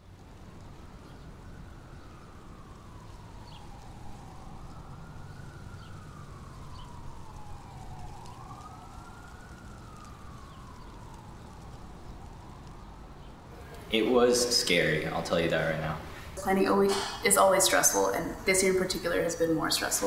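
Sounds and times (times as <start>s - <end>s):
siren wailing: 0.8s - 20.0s.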